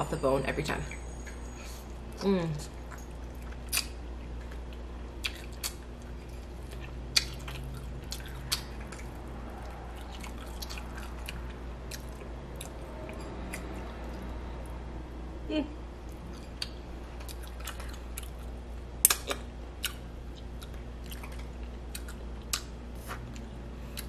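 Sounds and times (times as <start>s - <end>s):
low hum: 0.0s - 24.0s
person chewing with wet smacks: 2.8s - 14.3s, 16.0s - 24.0s.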